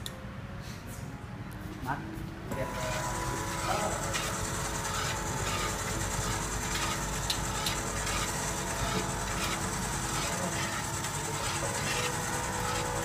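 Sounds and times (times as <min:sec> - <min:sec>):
motor hum: 0:02.5 - 0:13.0.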